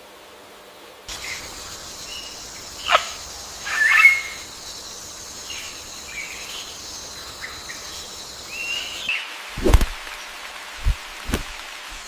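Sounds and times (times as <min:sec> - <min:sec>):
birds chirping: 0:01.1 - 0:12.0
high insect chorus: 0:01.1 - 0:12.0.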